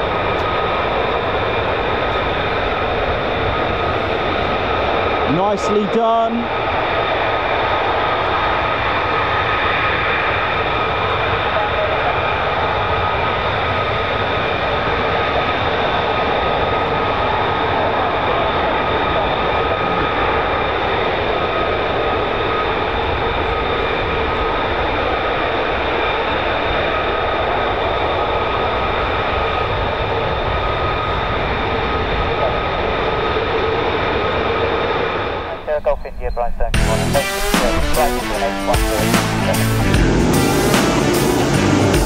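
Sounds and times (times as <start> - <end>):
high-pitched turbine whine: 0.0 - 42.0
jet engines idling: 0.0 - 42.0.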